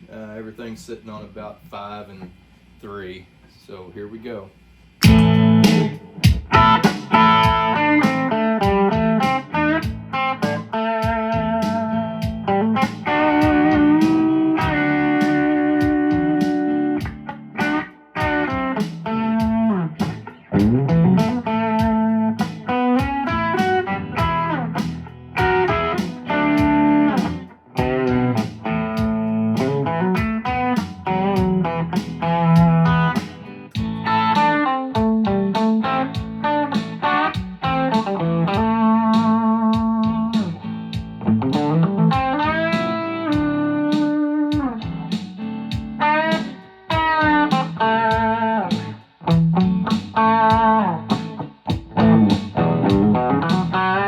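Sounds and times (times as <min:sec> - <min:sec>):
drum backing track: 0:04.8 - 0:54.0
electric guitar melody: 0:05.0 - 0:54.0.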